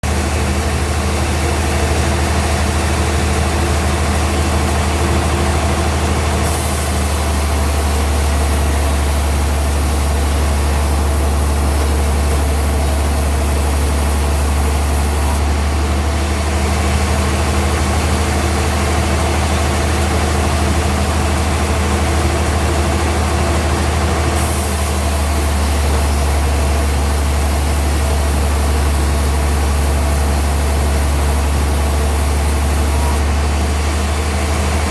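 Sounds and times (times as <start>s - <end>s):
sawmill machinery humming: 0.0s - 34.9s.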